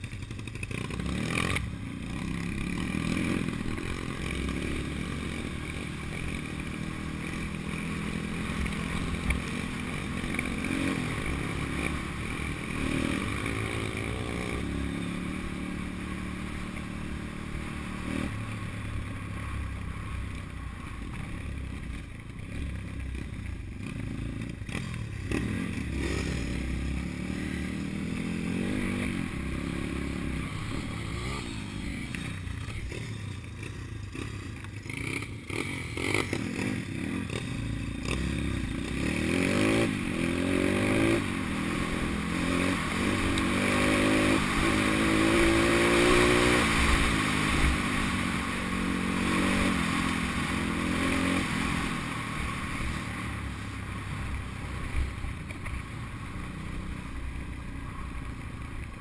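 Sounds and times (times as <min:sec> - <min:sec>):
pitbike engine running: 0:00.0 - 0:59.0.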